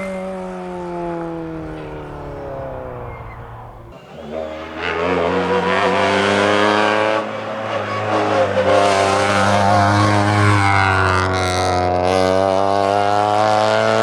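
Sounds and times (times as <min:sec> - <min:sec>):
rally car engine revving high: 0:00.0 - 0:14.0.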